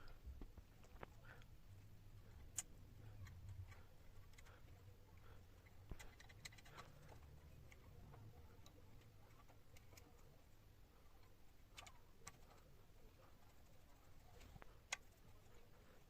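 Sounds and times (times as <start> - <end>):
faint clicks and taps: 0.0 - 1.5, 2.2 - 16.0.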